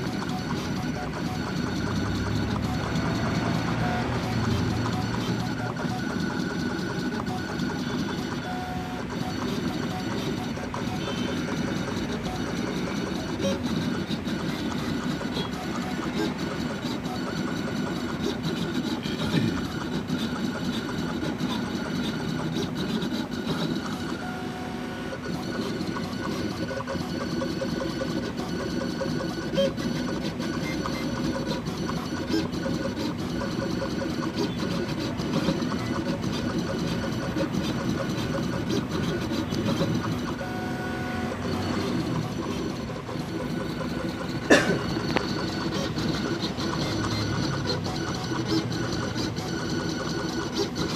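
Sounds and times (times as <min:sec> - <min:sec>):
cutting plotter motors whirring: 0:00.0 - 0:50.9.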